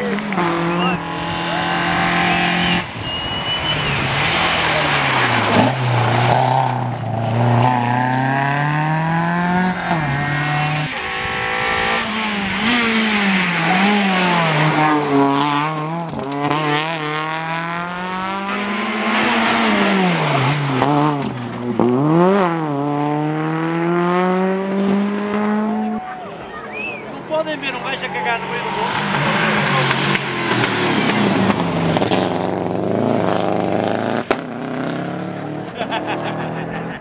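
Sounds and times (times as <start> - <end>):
rally car engine at full throttle: 0.0 - 37.0.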